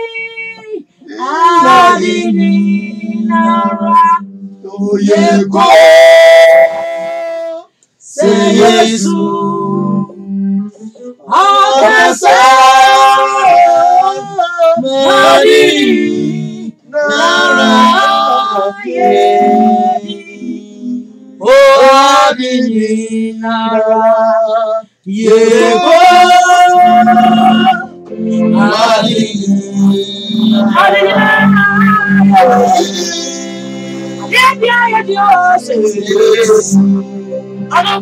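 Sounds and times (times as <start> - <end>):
woman leading gospel singing: 0.0 - 16.0, 17.0 - 20.6, 23.4 - 33.1, 34.2 - 37.0.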